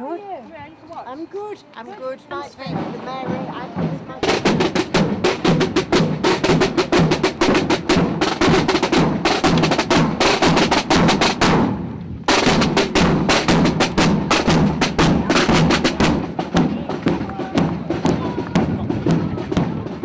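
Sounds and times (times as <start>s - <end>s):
rapid drum-roll-like strikes: 2.4s - 20.0s.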